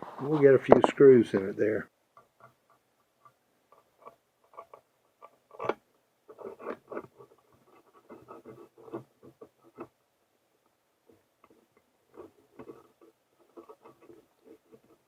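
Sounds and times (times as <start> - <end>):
scratchy handling sounds: 2.2 - 10.0, 10.6 - 15.0.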